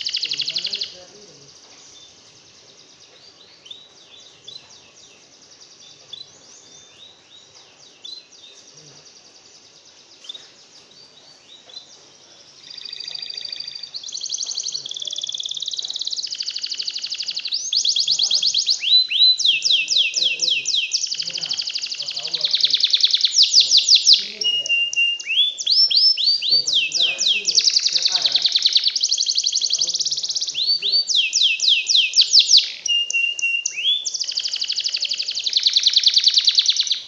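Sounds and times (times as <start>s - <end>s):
buzzy bird trill: 0.0s - 37.0s
songbird chirps: 0.0s - 37.0s.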